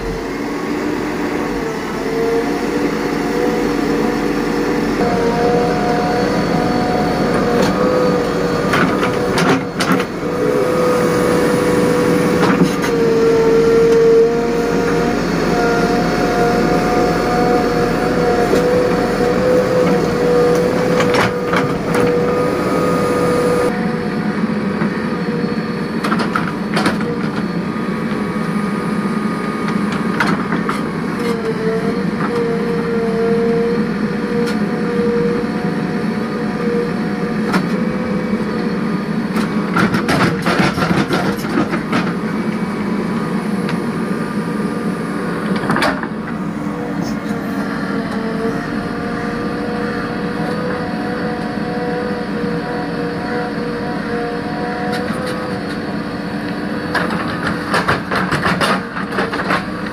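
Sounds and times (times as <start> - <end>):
diesel engine running with whine: 0.0 - 59.9.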